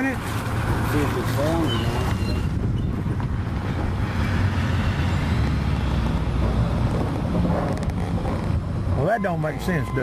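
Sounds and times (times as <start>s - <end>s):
highway traffic rumble: 0.0s - 10.0s
wind buffeting microphone: 0.4s - 9.4s.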